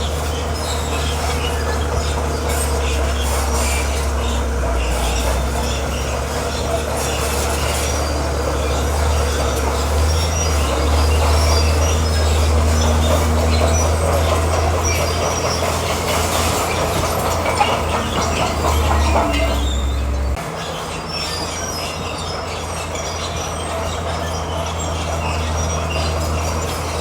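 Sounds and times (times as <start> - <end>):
bulldozer diesel engine hum: 0.0 - 27.0
steel tracks squealing and clanking: 0.0 - 27.0.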